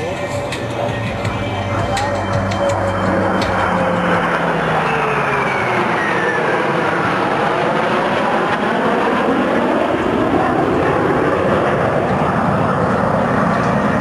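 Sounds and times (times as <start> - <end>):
fighter jets roaring past: 0.0 - 14.0.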